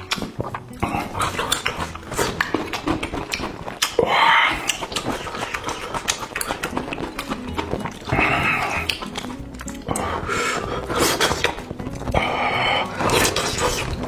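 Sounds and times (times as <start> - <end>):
breathy slurp: 0.0 - 14.0
wet chewing and smacking: 0.0 - 14.0.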